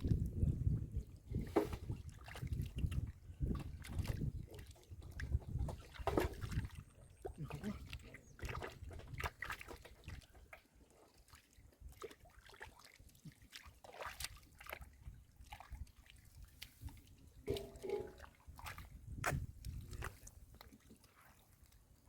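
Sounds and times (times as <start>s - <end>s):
mud and water sloshing: 0.0s - 22.0s.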